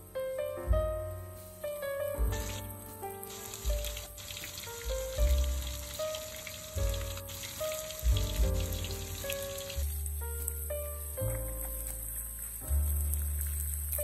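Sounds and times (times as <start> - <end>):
background music with bass: 0.0 - 14.0
fish sizzling in oil: 2.4 - 14.0.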